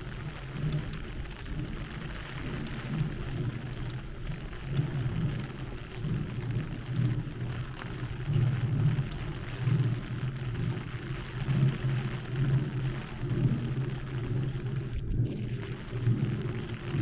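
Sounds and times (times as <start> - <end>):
heavy rain falling: 0.0 - 17.0
low uneven rumble: 0.0 - 17.0
sharp ticks of raindrops: 0.0 - 17.0.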